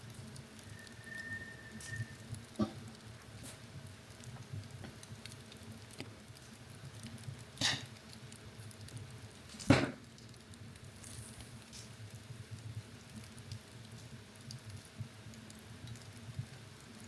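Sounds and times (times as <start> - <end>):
wood fire crackling: 0.0 - 17.0
sharp pops from fire: 1.8 - 16.5.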